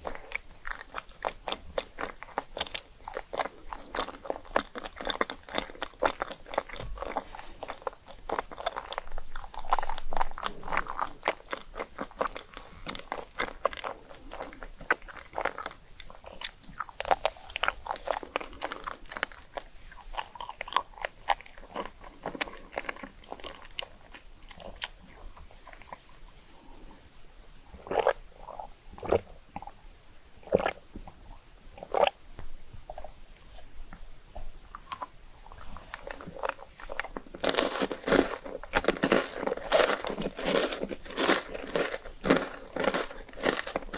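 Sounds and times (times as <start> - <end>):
rice cakes crunching: 0.0 - 26.0, 34.7 - 43.9.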